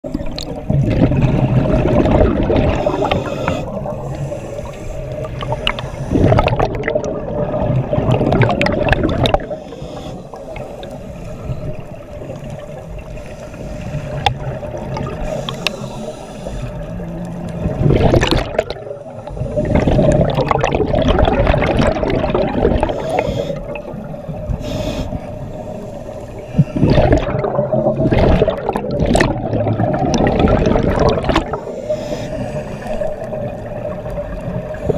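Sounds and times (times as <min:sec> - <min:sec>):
underwater regulator bubbles gurgling: 0:00.0 - 0:34.9.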